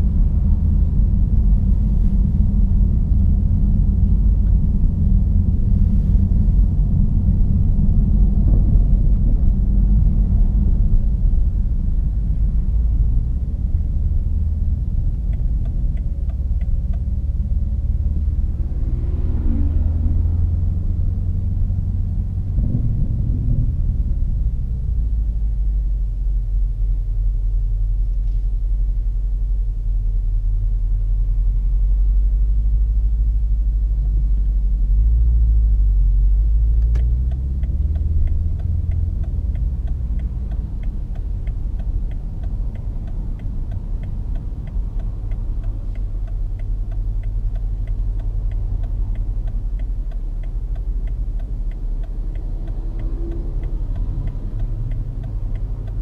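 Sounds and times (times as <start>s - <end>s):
car engine deep drone: 0.0s - 56.0s
turn signal ticking: 0.0s - 56.0s.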